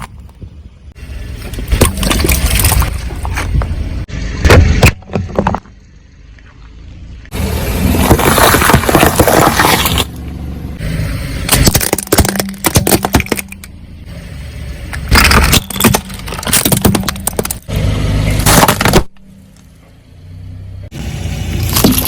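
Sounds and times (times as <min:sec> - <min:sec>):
objects crunching under car tyres: 0:00.0 - 0:10.5, 0:11.4 - 0:13.8, 0:14.9 - 0:19.8, 0:21.5 - 0:22.0.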